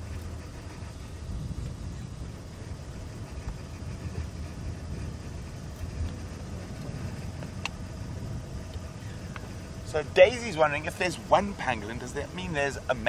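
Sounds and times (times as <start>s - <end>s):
vehicle rumbling on gravel: 0.0s - 13.0s.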